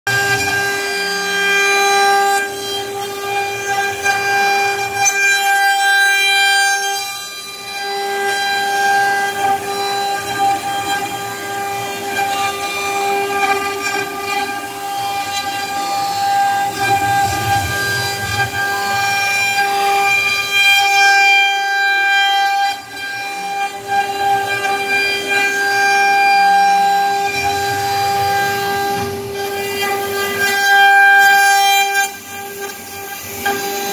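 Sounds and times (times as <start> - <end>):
end mill cutting aluminium: 0.1 - 33.9
router spindle high-pitched whine: 0.1 - 33.9.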